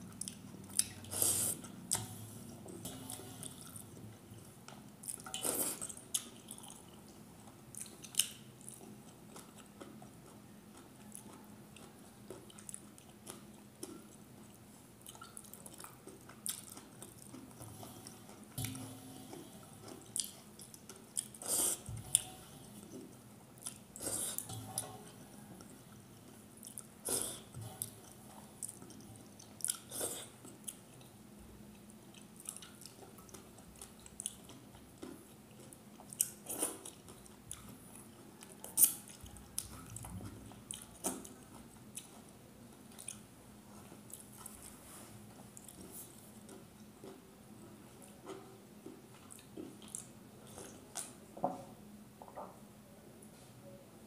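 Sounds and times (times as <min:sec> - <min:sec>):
chewing food: 0:00.0 - 0:51.3.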